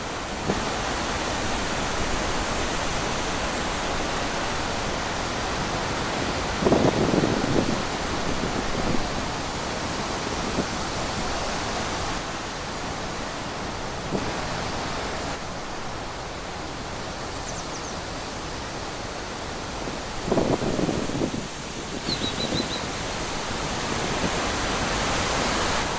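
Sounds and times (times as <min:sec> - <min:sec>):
wind blowing through trees: 0:00.0 - 0:25.9.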